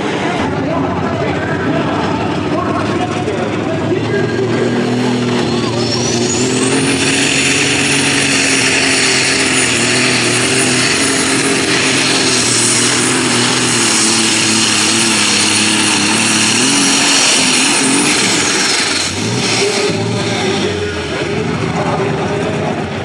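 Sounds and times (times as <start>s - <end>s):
high engine whine: 0.0s - 23.0s
tractor engine at high revs: 0.0s - 23.0s.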